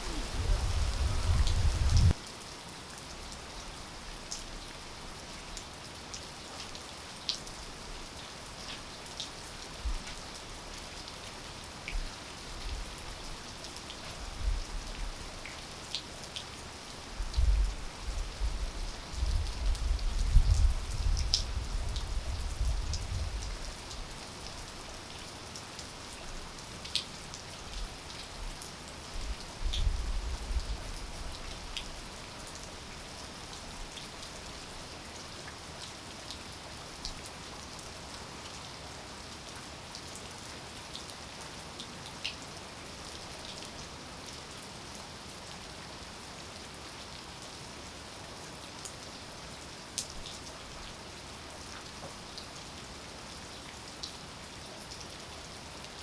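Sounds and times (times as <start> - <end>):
rainfall hiss: 0.0 - 56.0.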